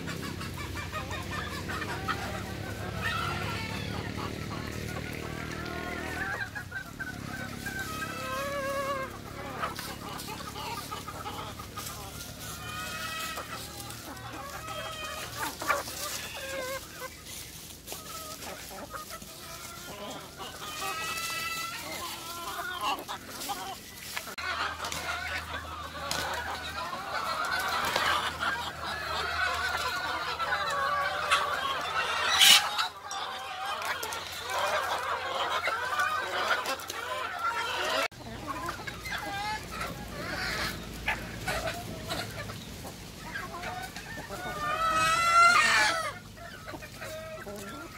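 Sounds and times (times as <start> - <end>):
chickens clucking: 0.0 - 47.9
roosters crowing: 0.0 - 47.9.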